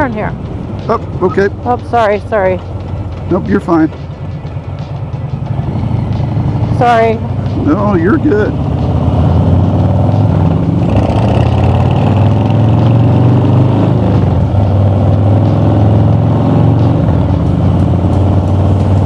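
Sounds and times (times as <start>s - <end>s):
motorcycle engine low throb: 0.0s - 19.0s.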